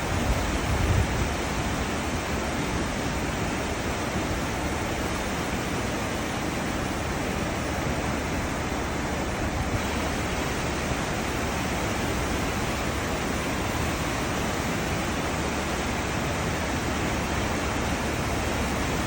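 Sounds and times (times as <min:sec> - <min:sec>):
ship wake water rushing: 0:00.0 - 0:19.0.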